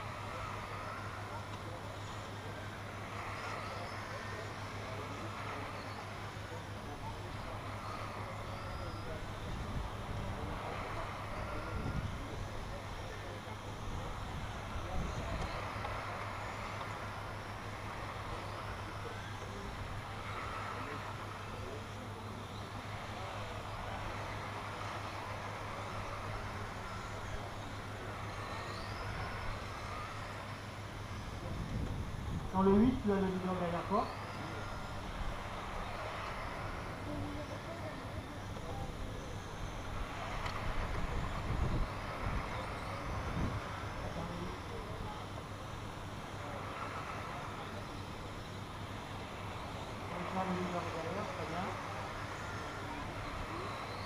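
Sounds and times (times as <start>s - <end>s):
constant low hum: 0.0s - 54.0s
faint motor whine: 0.0s - 54.0s.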